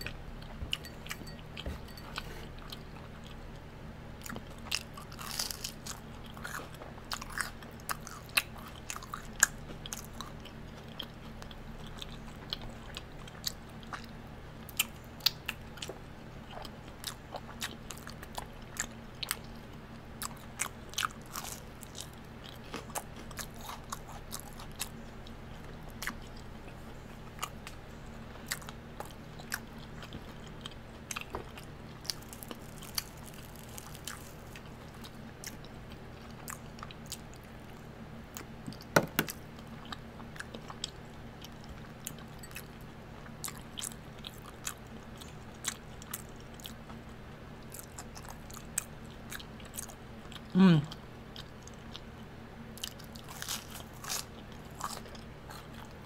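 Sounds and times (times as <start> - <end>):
chewing and crunching fried food: 0.0 - 56.0.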